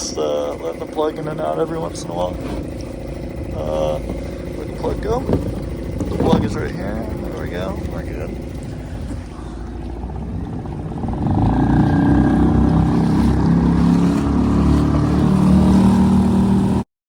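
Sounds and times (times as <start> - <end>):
outboard motor running: 0.0 - 16.8.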